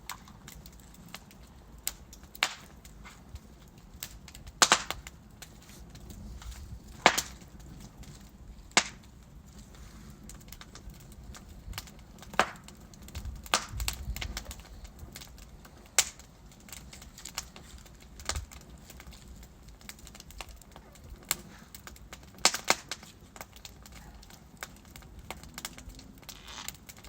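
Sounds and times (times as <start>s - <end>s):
logs crackling and popping: 0.0s - 27.0s
loud wood cracks: 0.0s - 27.0s
low rush of flame: 0.0s - 27.0s.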